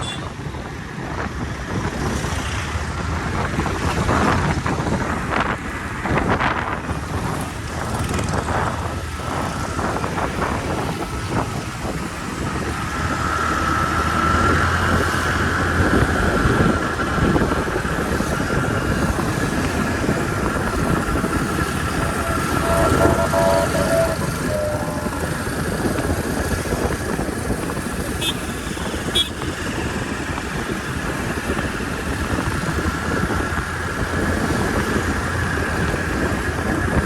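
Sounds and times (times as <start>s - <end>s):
vehicle whine: 0.0s - 37.0s
vehicle running hum: 3.2s - 37.0s.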